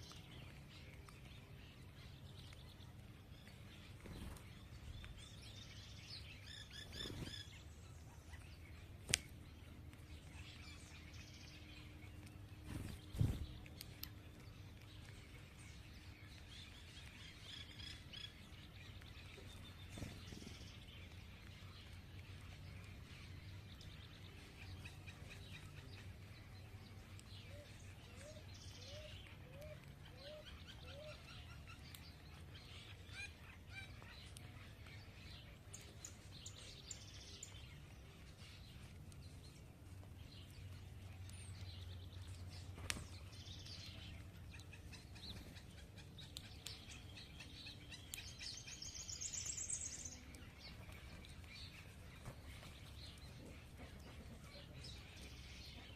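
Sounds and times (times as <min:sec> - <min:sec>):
birds chirping faintly: 0:00.0 - 0:55.9
steady low background hum: 0:00.0 - 0:55.9.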